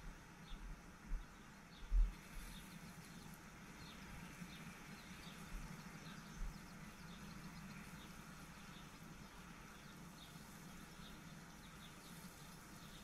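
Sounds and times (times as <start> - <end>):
low steady hum: 0.0 - 13.0
small bird chirping: 0.4 - 13.0.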